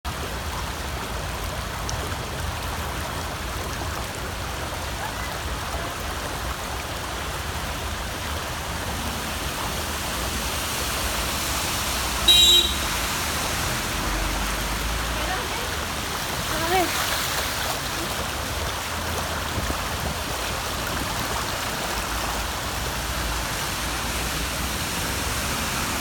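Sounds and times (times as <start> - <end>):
rainwater flowing in street: 0.1 - 26.0.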